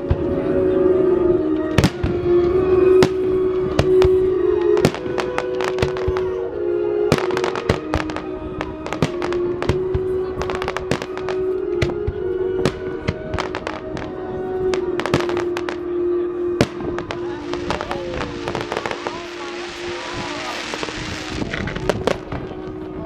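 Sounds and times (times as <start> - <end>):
fireworks bangs and crackles: 0.0 - 0.5, 1.6 - 6.5, 7.1 - 16.0, 16.6 - 23.0
music with long held notes: 0.0 - 23.0.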